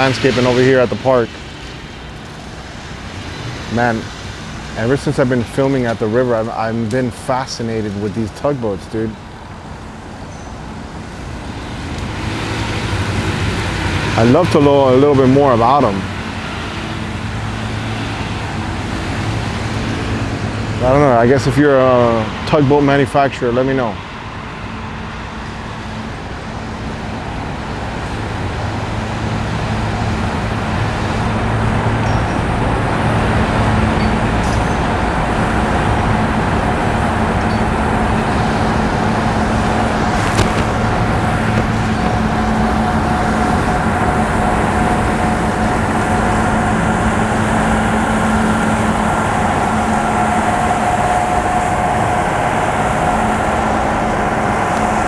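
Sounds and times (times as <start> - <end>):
diesel engine low hum: 0.0 - 55.0
high steady whine: 0.0 - 55.0.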